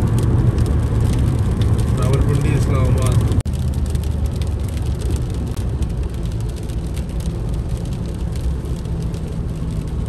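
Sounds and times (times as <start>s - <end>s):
car engine drone: 0.0s - 10.0s
raindrops tapping on windscreen: 0.0s - 10.0s.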